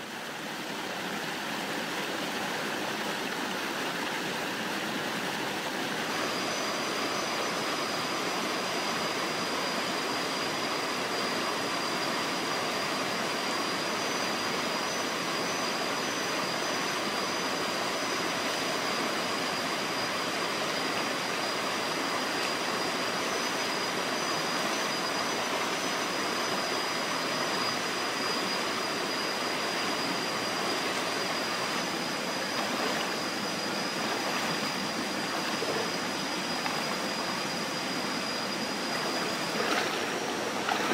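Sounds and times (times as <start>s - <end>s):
stream rushing over rocks: 0.0s - 40.9s
thin high steady tone: 0.0s - 40.9s.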